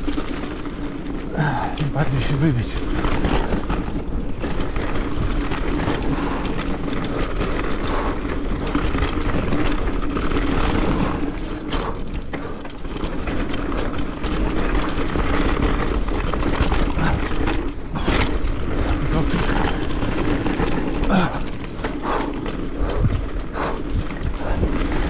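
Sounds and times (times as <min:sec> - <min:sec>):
bike knocks and rattles: 0:00.0 - 0:25.0
tyres rumbling on dirt: 0:00.0 - 0:25.0.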